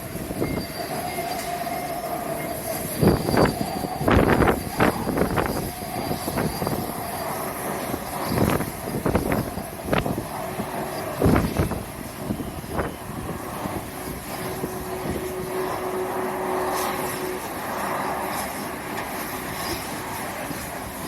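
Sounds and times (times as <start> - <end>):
jet engines rumbling: 0.0 - 21.0
wind buffeting microphone: 0.0 - 21.0.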